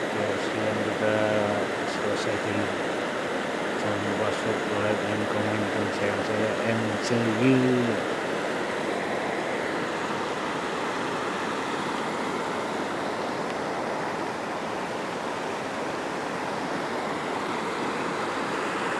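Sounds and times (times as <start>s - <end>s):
river rushing over stones: 0.0s - 18.9s.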